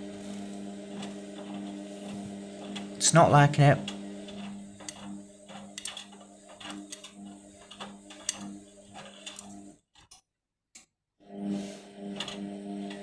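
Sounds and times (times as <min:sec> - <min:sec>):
washing machine motor humming: 0:00.0 - 0:09.8, 0:11.2 - 0:13.0.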